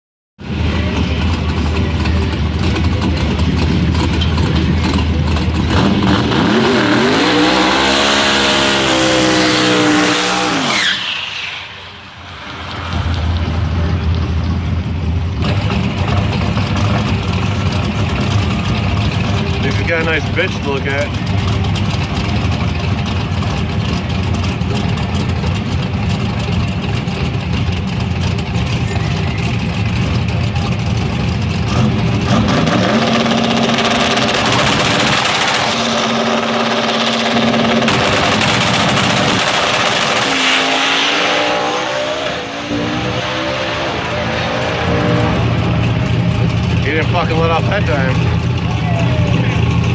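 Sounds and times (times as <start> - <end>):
car engine accelerating hard: 0.4 - 49.9.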